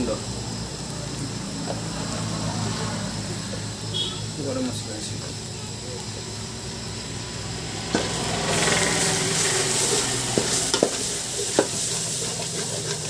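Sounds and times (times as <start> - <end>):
curry sizzling in oil: 0.0 - 13.0.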